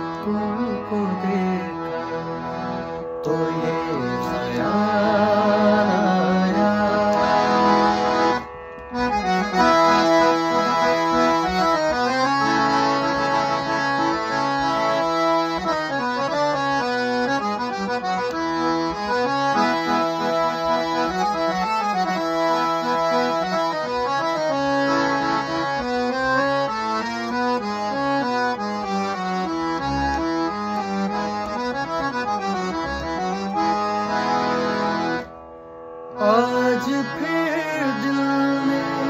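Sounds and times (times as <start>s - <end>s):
harmonium playing: 0.0s - 39.0s.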